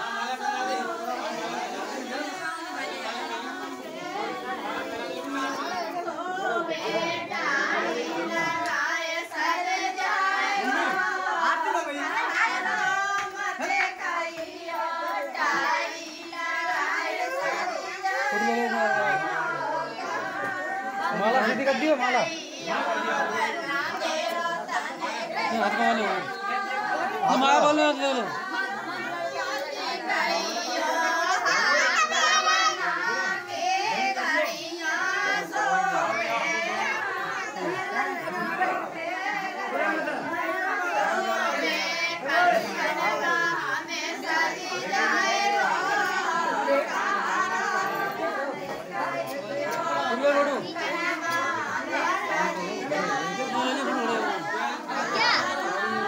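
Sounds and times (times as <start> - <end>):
people talking: 0.0 - 56.0
women and girls singing together: 0.0 - 56.0.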